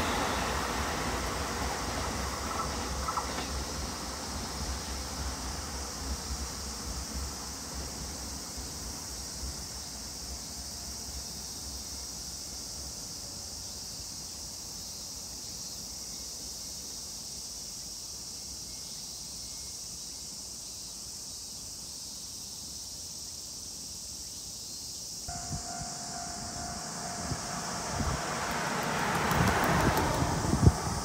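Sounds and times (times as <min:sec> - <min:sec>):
insects chorus: 0:00.0 - 0:31.0.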